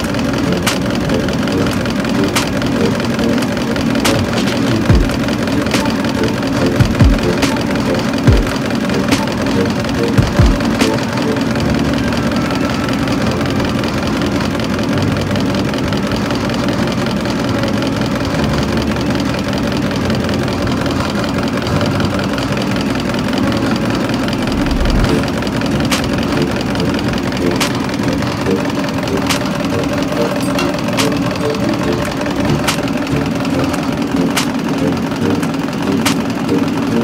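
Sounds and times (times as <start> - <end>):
test bench mechanical hum: 0.0 - 37.0.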